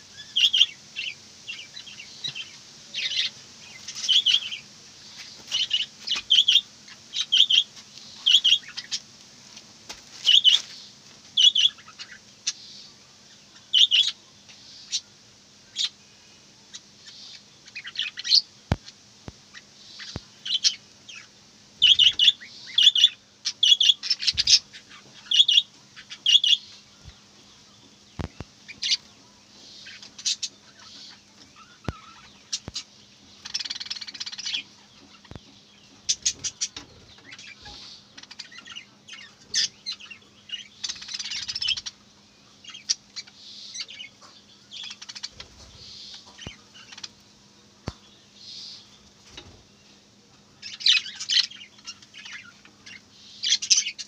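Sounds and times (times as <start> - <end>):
budgerigars chirping and chattering: 0.1 - 9.1, 10.2 - 15.1, 15.7 - 16.0, 16.7 - 50.0, 50.6 - 54.0.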